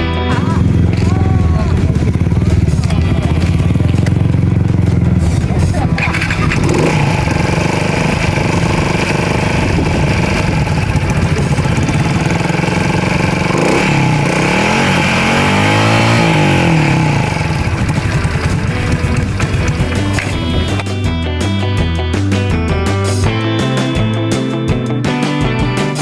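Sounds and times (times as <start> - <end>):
small motorcycle engine running: 0.2 - 21.1.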